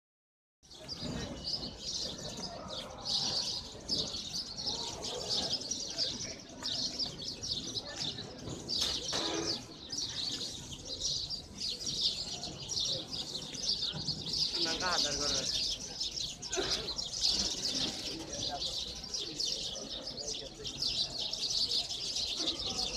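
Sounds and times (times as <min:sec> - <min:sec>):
sparrows chirping in chorus: 0:00.6 - 0:22.9.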